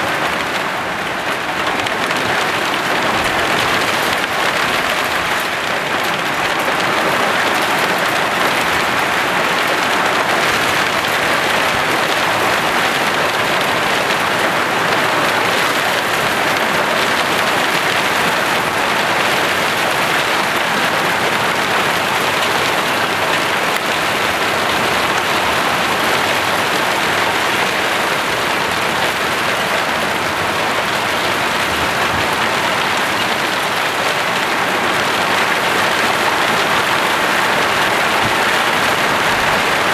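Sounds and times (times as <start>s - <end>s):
hail and heavy rain pounding: 0.0s - 39.9s.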